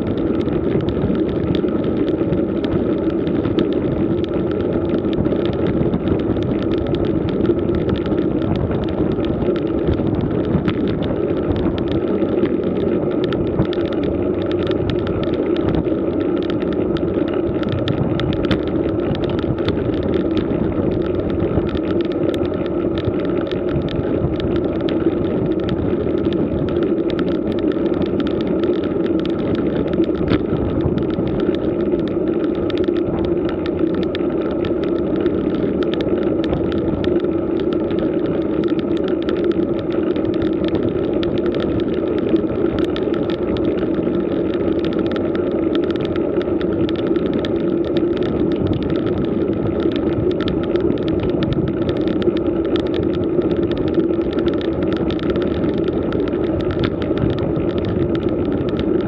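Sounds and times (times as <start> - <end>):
bike tyres rumbling on asphalt: 0.0 - 59.0.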